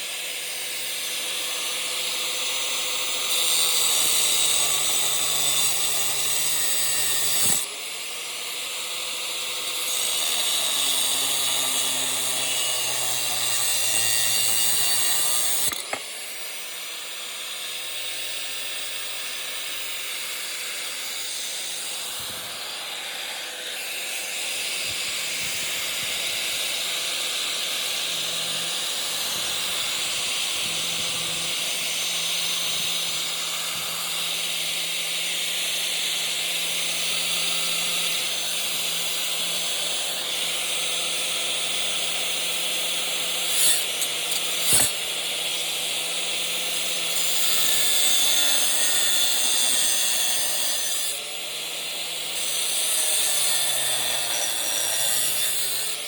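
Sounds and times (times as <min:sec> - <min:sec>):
angle grinder cutting metal: 0:00.0 - 0:56.0.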